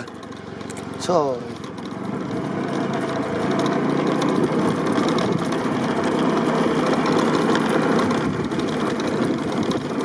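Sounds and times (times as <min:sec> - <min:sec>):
riding noise: 0:00.0 - 0:10.0
small motorcycle engine running: 0:00.0 - 0:10.0.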